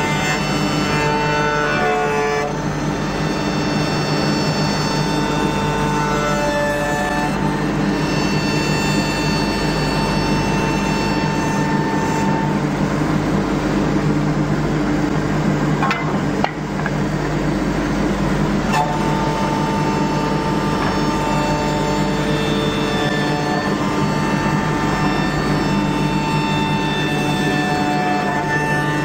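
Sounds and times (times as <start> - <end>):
woodworking machine hum and whine: 0.0 - 29.0.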